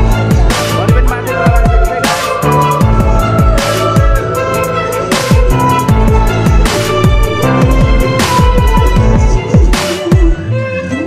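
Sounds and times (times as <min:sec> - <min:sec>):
deep kick drums: 0:00.0 - 0:04.5, 0:05.3 - 0:10.4
electronic dance music: 0:00.0 - 0:11.0.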